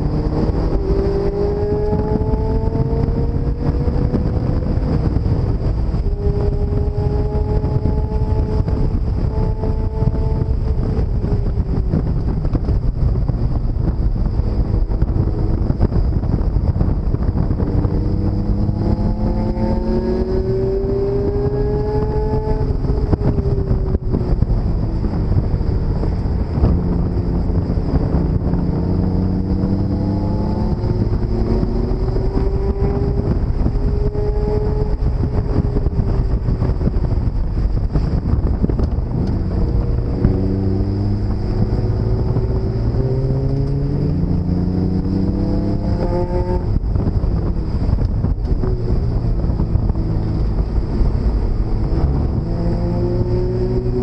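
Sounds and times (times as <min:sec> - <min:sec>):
road rumble: 0:00.0 - 0:54.0
sports car engine revving: 0:00.0 - 0:54.0
wind buffeting: 0:00.0 - 0:54.0.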